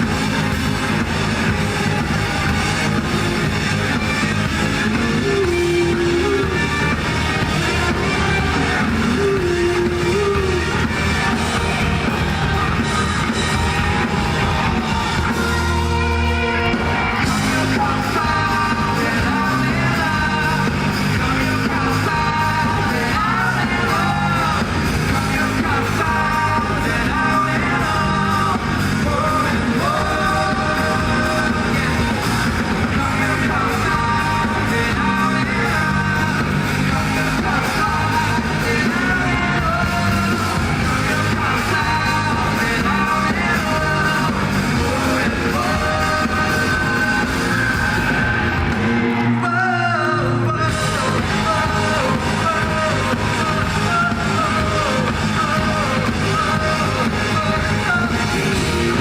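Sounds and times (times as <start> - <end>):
bass guitar: 0.0 - 59.0
drums: 0.0 - 59.0
electric guitars: 0.0 - 59.0
male voice singing: 0.0 - 59.0.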